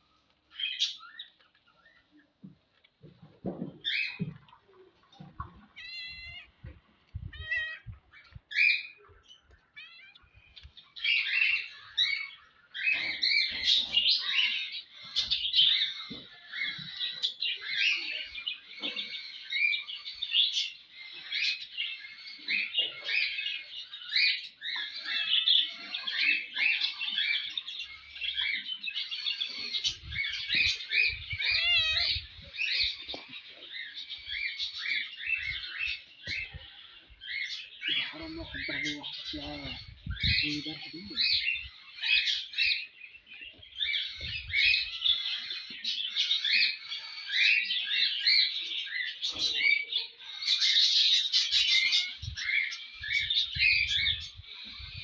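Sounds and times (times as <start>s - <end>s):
budgerigars chattering and warbling: 3.1s - 55.0s.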